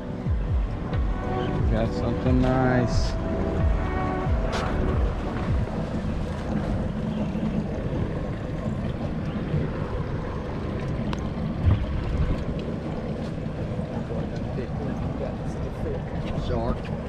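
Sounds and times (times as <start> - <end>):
water lapping against boat: 0.0 - 17.0
wind buffeting microphone: 0.0 - 17.0.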